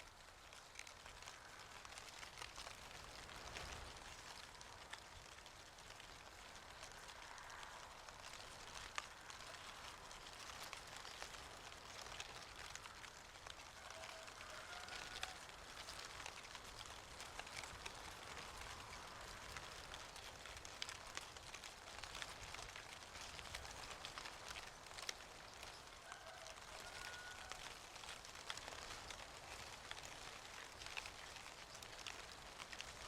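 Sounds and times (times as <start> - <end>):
falling leaves pattering: 0.0 - 33.0
soft steady hiss: 0.0 - 33.0.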